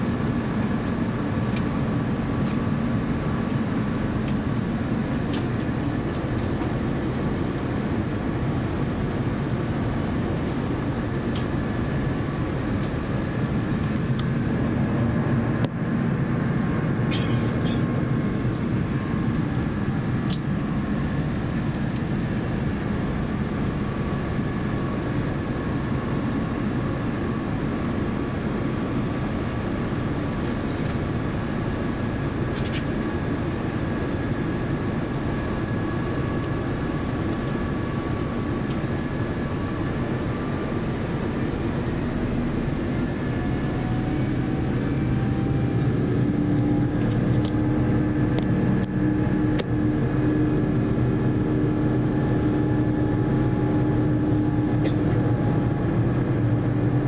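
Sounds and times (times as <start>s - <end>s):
faint steady whine: 0.0s - 57.0s
jet engine roar in cabin: 0.0s - 57.0s.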